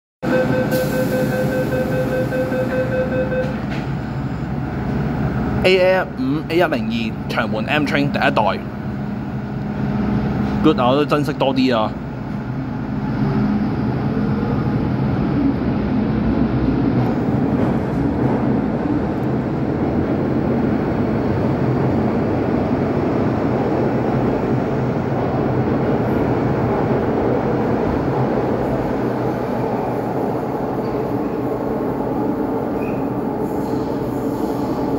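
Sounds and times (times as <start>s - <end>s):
train wheels and motors rumbling: 0.3s - 34.9s.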